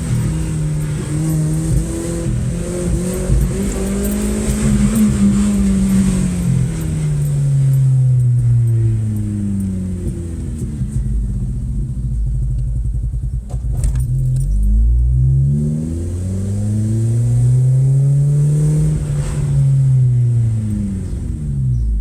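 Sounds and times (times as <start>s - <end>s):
car engine misfiring under throttle: 0.0s - 22.0s.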